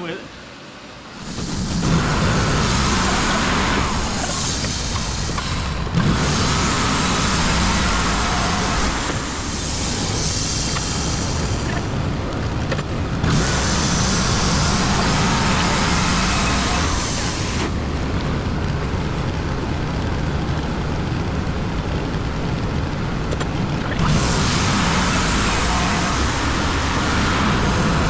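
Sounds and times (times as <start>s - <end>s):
band sawmill engine running: 0.0s - 28.0s.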